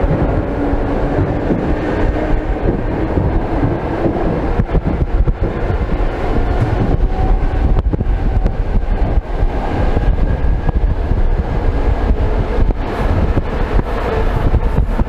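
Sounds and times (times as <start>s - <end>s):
rush of wind and running noise: 0.0s - 15.0s
train wheels clattering on rails: 0.0s - 15.0s.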